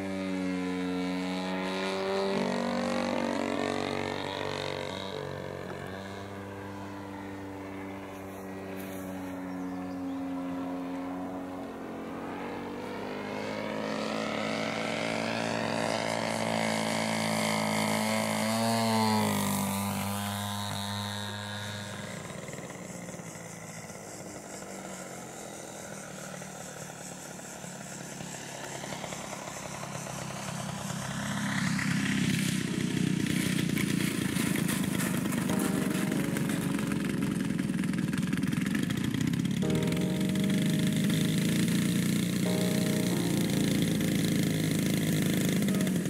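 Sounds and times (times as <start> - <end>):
model plane engine droning: 0.0 - 46.0.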